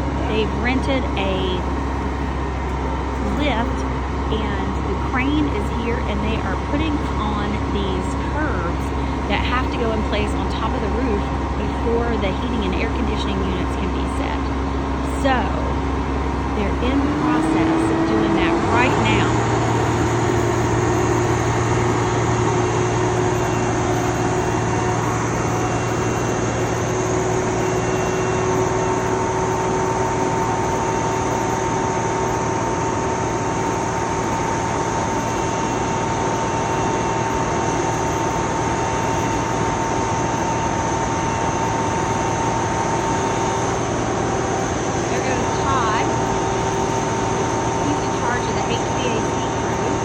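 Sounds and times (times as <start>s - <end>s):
crane engine droning: 0.0s - 50.0s
faint steady whine: 0.0s - 50.0s.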